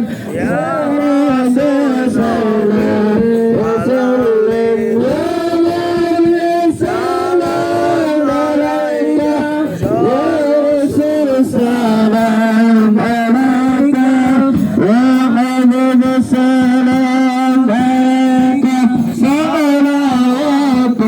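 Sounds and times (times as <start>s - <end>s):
man singing devotional chant: 0.0s - 21.0s.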